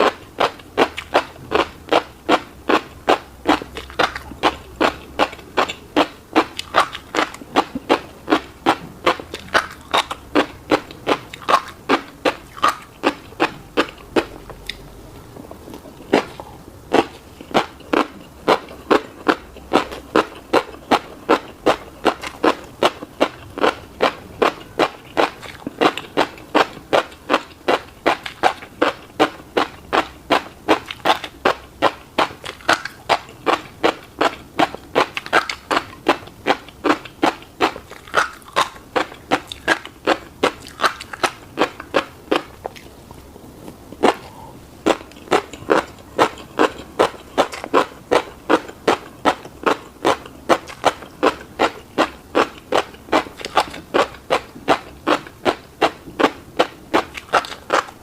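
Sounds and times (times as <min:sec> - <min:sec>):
close chewing: 0:00.0 - 0:58.0.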